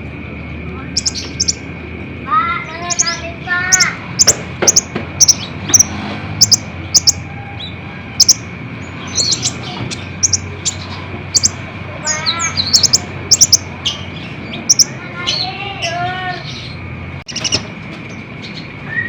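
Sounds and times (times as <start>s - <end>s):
lower bending bird notes: 0.4s - 19.0s
sunbird chirping: 0.8s - 1.8s, 2.5s - 19.0s.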